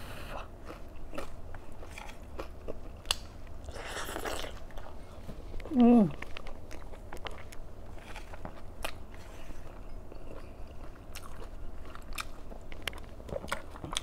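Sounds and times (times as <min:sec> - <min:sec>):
steady low hum: 0:00.0 - 0:14.0
person chewing and crunching food: 0:00.2 - 0:14.0.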